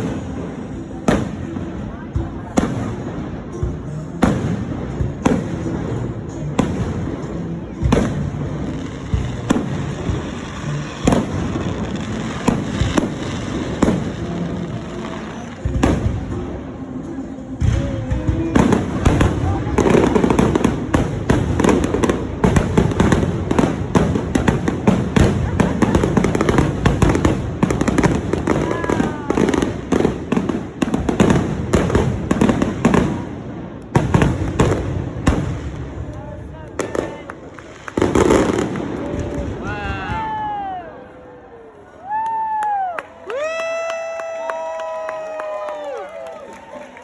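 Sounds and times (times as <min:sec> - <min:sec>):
fireworks bangs: 0:00.0 - 0:41.1.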